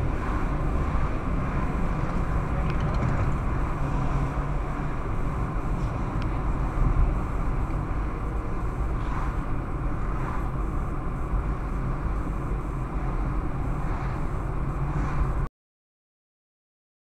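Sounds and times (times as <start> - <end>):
car engine and tyre rumble: 0.0 - 15.5.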